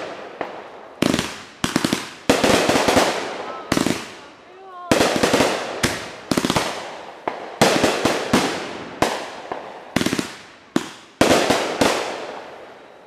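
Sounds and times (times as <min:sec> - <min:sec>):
fireworks bangs echoing: 0:00.0 - 0:13.0.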